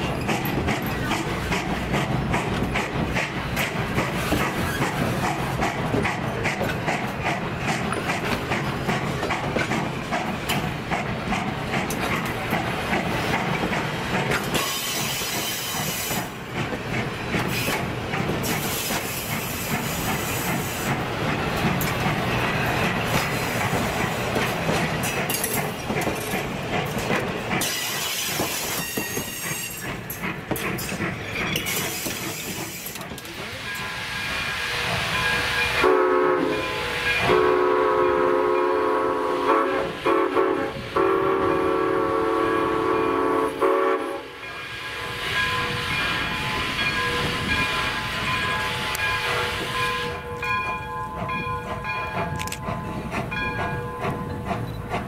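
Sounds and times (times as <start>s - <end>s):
train wheels rumbling and clattering: 0.0s - 55.0s.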